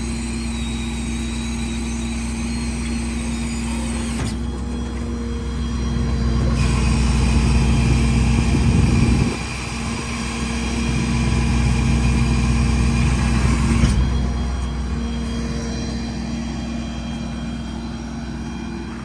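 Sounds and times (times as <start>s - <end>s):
diesel engine running: 0.0s - 19.0s
steady mechanical hum: 0.0s - 19.0s.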